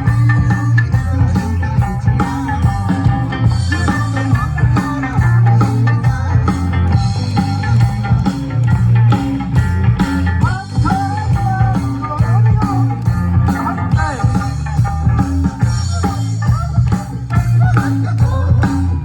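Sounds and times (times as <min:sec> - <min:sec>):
band playing upbeat song: 0:00.0 - 0:19.0.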